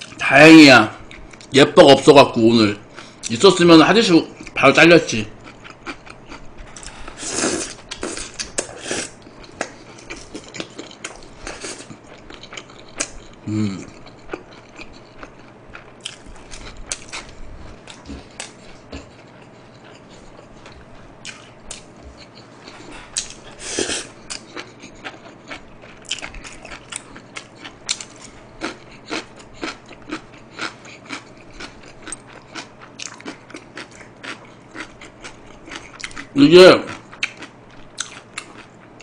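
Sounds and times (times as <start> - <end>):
crunchy chewing: 5.4 - 39.0.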